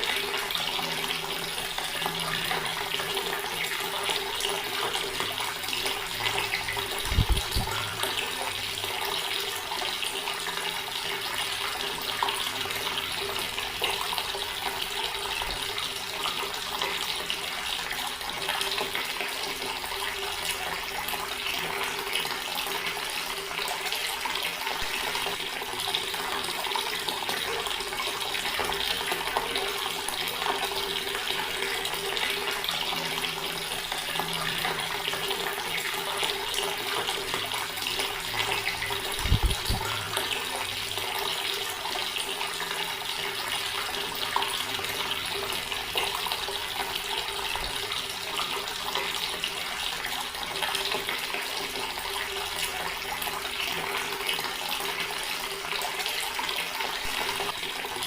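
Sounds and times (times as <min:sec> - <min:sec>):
tap water splashing into basin: 0:00.0 - 0:58.0.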